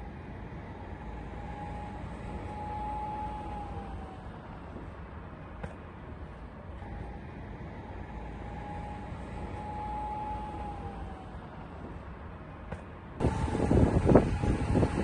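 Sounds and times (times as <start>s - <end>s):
heavy machinery engine rumbling: 0.0s - 15.0s.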